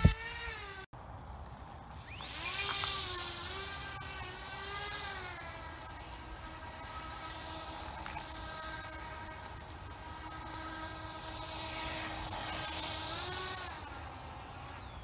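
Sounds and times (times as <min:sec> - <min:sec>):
electric motor propeller whine: 0:00.0 - 0:00.9, 0:01.9 - 0:15.0.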